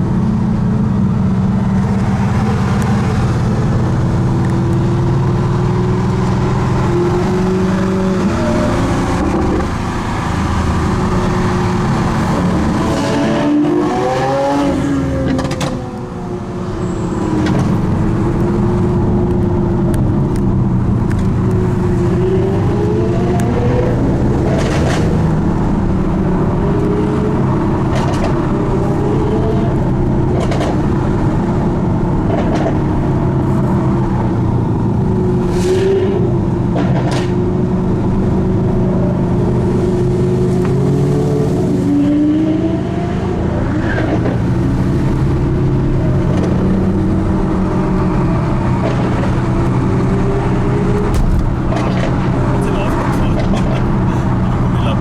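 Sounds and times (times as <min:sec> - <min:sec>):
cars driving at speed: 0:00.0 - 0:55.0
road and wind noise: 0:00.0 - 0:55.0.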